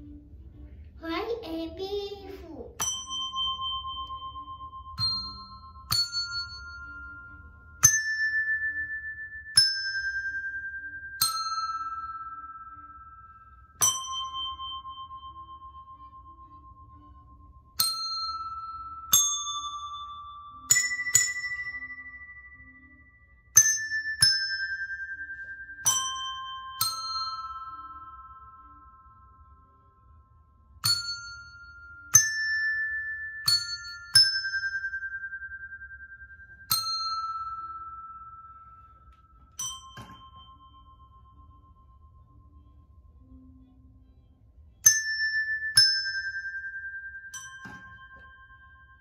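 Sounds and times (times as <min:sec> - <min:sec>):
desk bells dinging melody: 0:02.0 - 0:49.0.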